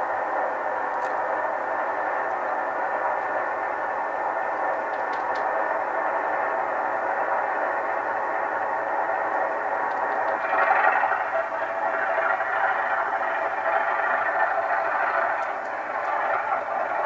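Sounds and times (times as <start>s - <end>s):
model locomotive diesel engine sound: 0.0s - 17.0s.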